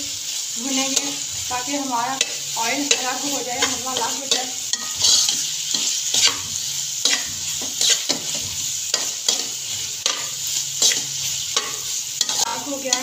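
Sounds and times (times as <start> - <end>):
frying sizzle: 0.0 - 13.0
spoon scraping metal pan: 0.8 - 13.0.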